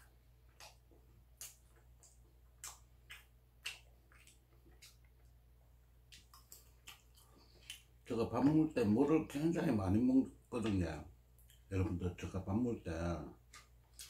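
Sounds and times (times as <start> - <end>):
person chewing food: 0.0 - 9.4, 10.6 - 12.0, 13.2 - 14.0
low steady hum: 0.0 - 14.0.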